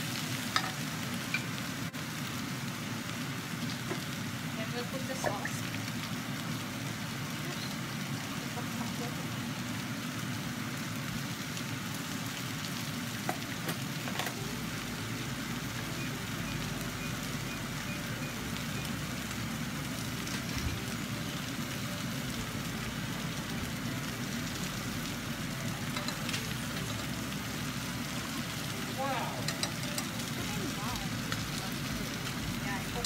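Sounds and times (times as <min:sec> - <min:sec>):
chicken and onions sizzling: 0:00.0 - 0:33.0.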